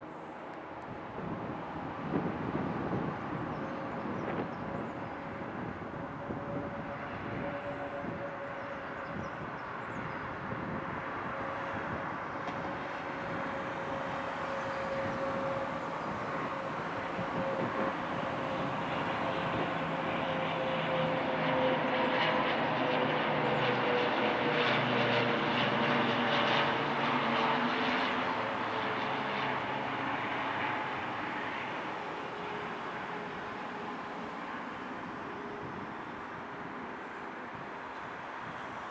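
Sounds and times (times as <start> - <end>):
turboprop airliner passing: 0.0 - 38.9.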